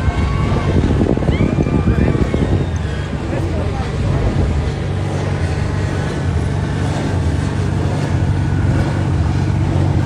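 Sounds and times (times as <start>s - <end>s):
engines running: 0.0s - 10.0s.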